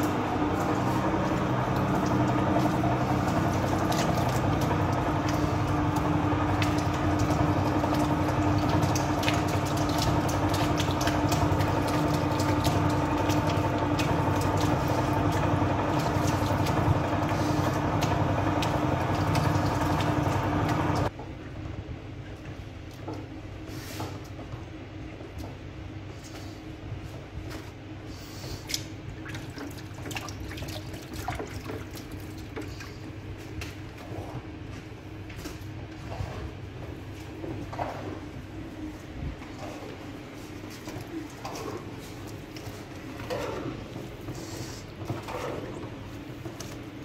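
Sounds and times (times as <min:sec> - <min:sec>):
dough mixer humming: 0:00.0 - 0:22.0, 0:29.0 - 0:47.0.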